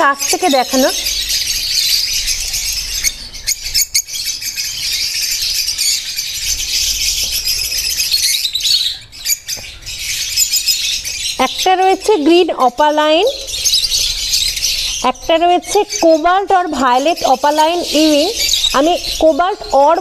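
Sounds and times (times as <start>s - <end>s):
lovebirds twittering and squawking: 0.0s - 20.0s.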